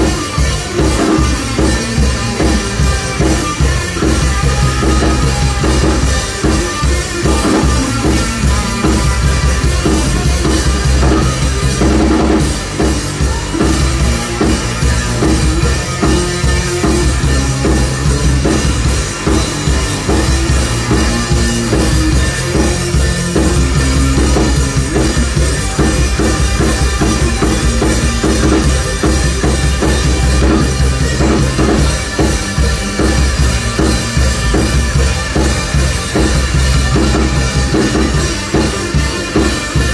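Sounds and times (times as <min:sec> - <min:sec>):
electric bass: 0:00.0 - 0:39.9
electric guitar: 0:00.0 - 0:39.9
loud drum beat: 0:00.0 - 0:39.9.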